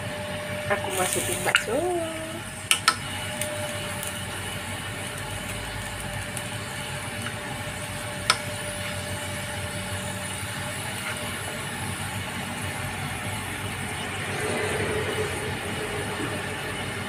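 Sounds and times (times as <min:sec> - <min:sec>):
gas stove hum and hiss: 0:00.0 - 0:17.0.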